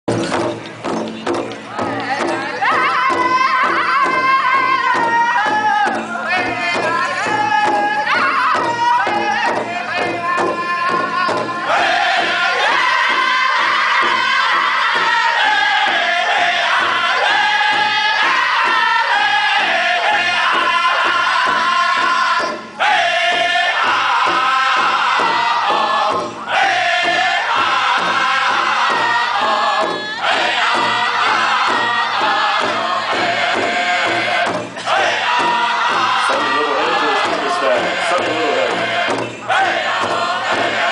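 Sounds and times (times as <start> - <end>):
large drum steady beat: 0.1 - 40.9
men singing together: 1.9 - 40.9.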